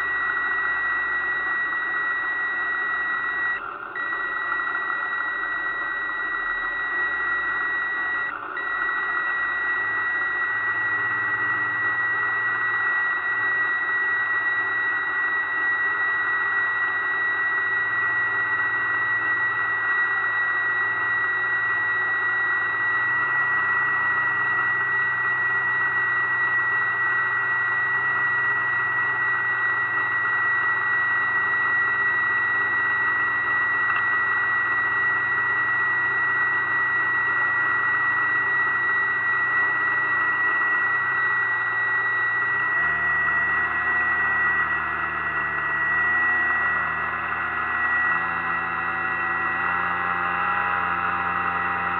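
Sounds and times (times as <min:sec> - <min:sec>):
model boat motor whine: 0:00.0 - 0:51.9.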